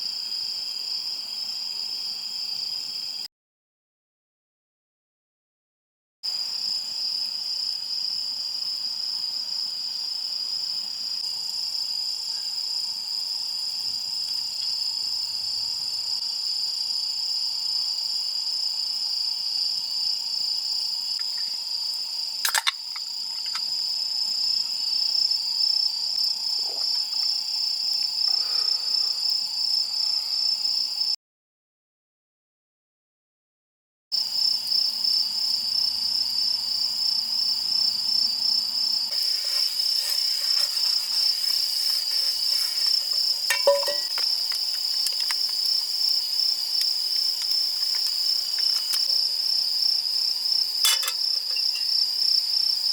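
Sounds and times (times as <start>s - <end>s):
crickets trilling: 6.3s - 31.1s, 34.2s - 52.9s.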